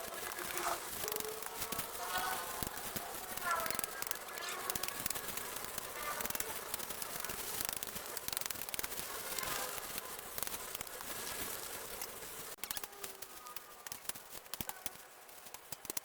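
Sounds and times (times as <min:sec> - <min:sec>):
dense crackling and rustling: 0:00.0 - 0:16.0.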